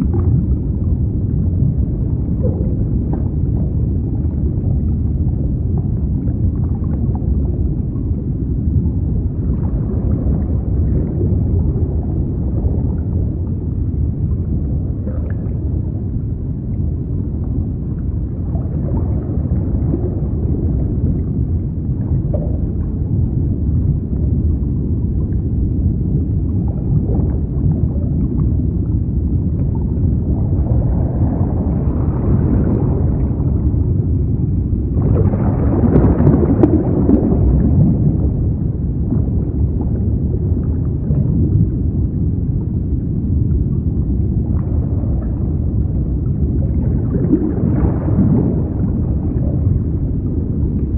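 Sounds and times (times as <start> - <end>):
underwater rumbling wash with gurgling: 0.0 - 50.9.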